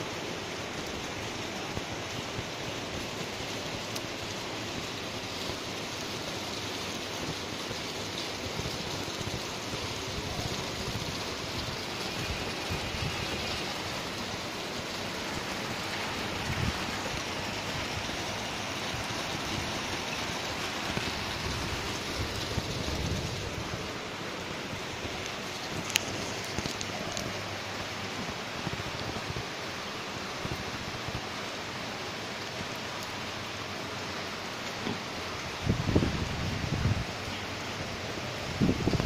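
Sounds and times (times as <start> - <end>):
rain falling on trees and paving: 0.0 - 39.0.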